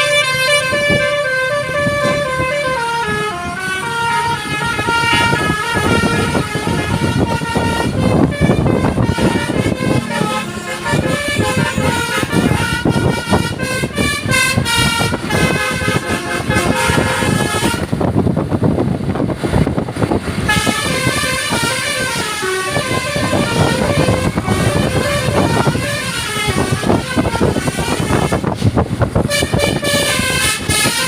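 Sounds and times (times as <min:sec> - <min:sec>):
multi-tone bus horn melody: 0:00.0 - 0:18.6, 0:20.0 - 0:31.0
bus engine running: 0:00.0 - 0:31.0.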